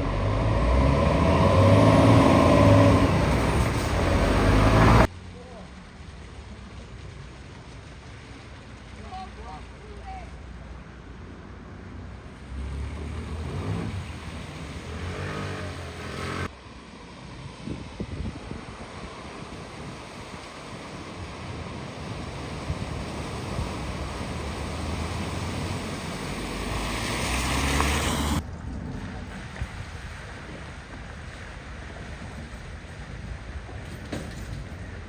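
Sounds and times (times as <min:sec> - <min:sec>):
water rushing and splashing: 0:00.0 - 0:33.7.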